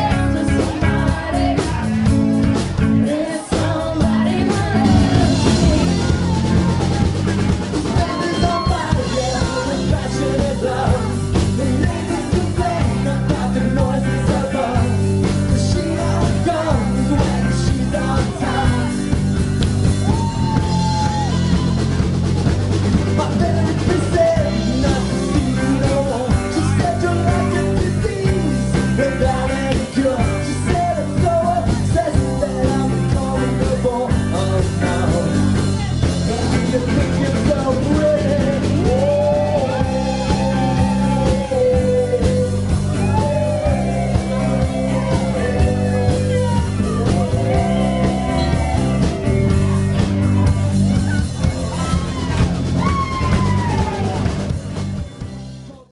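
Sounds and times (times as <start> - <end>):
singer singing: 0.0 - 21.7, 23.0 - 54.2
live rock band: 0.0 - 55.9.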